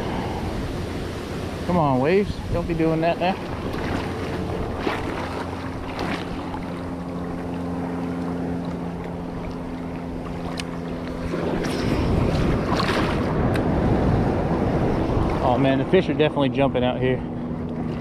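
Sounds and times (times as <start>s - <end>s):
ocean surf washing: 0.0s - 18.0s
steady low hum: 0.0s - 18.0s.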